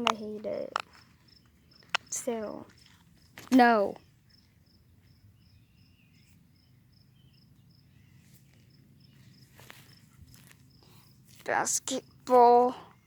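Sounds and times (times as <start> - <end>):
faint cricket chirping: 0.2 - 13.0.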